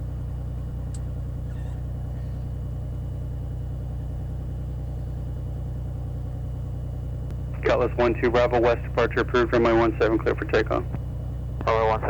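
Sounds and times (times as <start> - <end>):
aircraft piston engine idling: 0.0 - 12.0.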